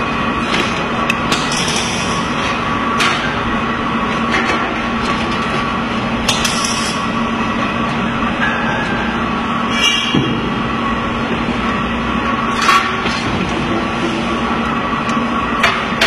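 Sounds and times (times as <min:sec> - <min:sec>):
workshop machinery hum: 0:00.0 - 0:16.0.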